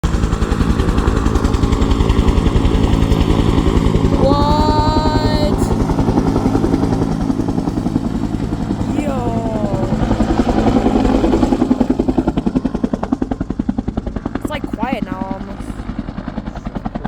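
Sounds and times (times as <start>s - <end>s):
helicopter rotors beating: 0.0s - 17.0s.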